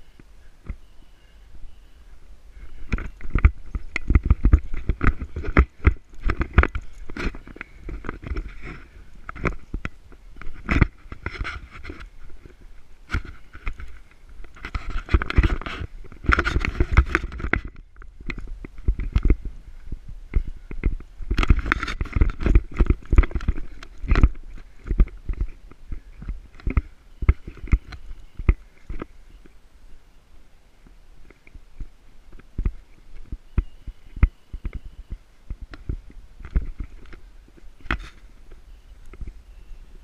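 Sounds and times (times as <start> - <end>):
twigs scraping against camera: 0.0 - 29.6, 30.8 - 40.0.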